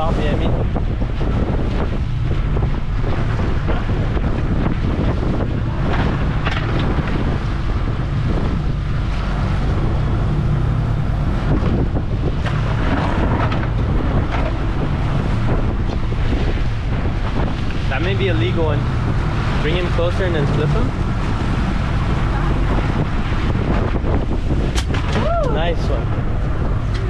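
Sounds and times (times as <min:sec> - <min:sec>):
boat wake rushing: 0:00.0 - 0:27.0
outboard motors humming: 0:00.0 - 0:27.0
wind buffeting microphone: 0:00.0 - 0:27.0.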